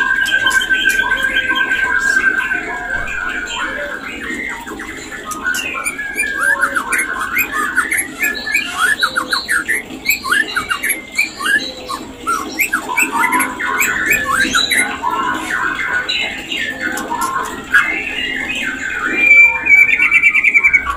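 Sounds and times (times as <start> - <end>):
bird chirping and chattering: 0.0 - 20.9.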